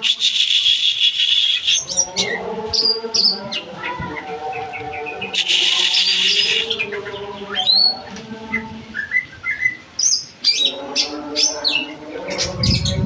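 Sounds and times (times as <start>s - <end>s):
caged birds singing: 0.0s - 13.0s.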